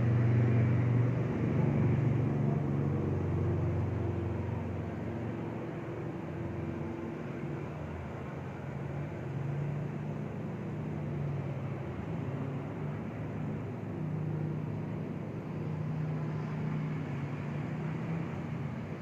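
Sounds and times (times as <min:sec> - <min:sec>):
engine-like droning tones: 0:00.0 - 0:19.0.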